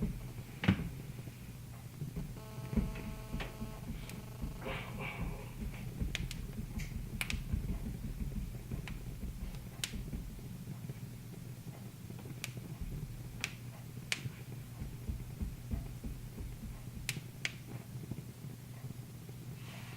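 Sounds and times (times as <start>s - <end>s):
low steady rumble: 0.0s - 17.5s
wood fire crackling and popping: 0.0s - 19.9s.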